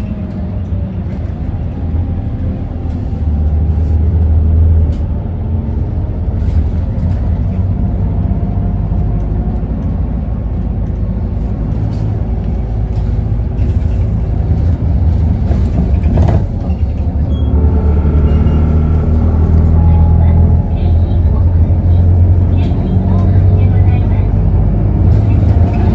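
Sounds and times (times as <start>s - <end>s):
bus diesel engine hum: 0.0s - 25.9s.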